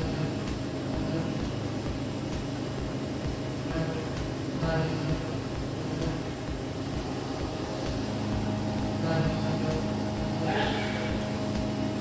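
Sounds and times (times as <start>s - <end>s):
welding arc humming and hissing: 0.0s - 12.0s.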